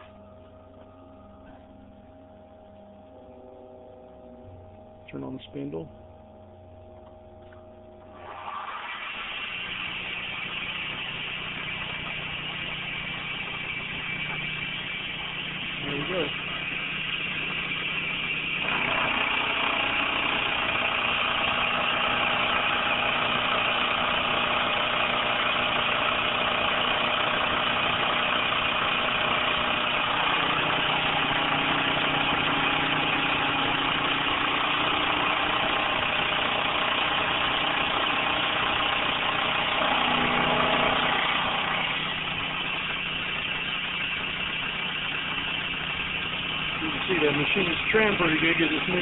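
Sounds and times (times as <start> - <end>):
milling machine hum: 0.0 - 49.0
milling machine cutting metal: 8.0 - 49.0.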